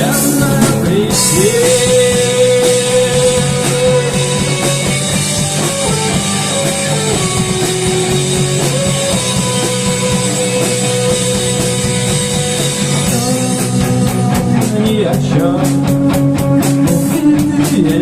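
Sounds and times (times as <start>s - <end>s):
held lead guitar note: 0.0s - 15.4s
instrumental rock music: 0.0s - 18.0s.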